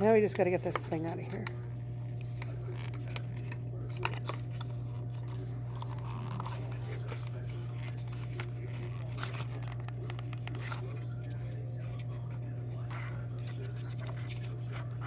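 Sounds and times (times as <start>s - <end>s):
low electrical hum: 0.0s - 15.0s
plastic toy packaging rustling: 2.2s - 15.0s.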